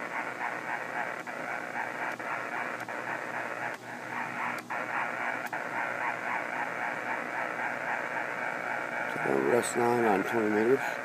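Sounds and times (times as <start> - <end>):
radio interference noise: 0.0 - 11.0
tuning clicks: 0.0 - 11.0.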